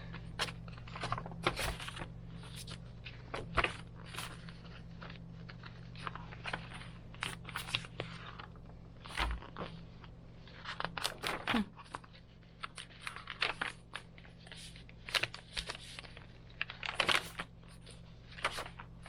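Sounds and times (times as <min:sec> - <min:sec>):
paper pages rustling: 0:00.0 - 0:19.0
steady low hum: 0:00.0 - 0:19.0.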